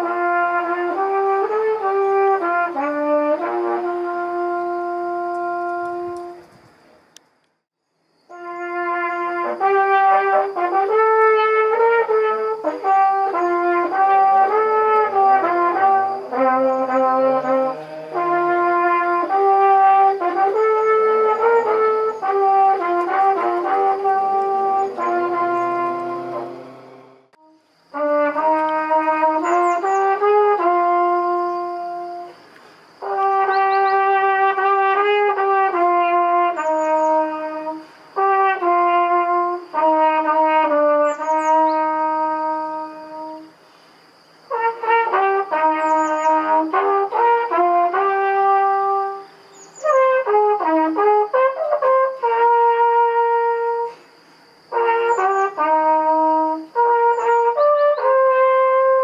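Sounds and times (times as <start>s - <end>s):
flugelhorn melody: 0.0s - 6.5s, 8.3s - 32.4s, 33.0s - 43.6s, 44.5s - 54.1s, 54.7s - 59.0s.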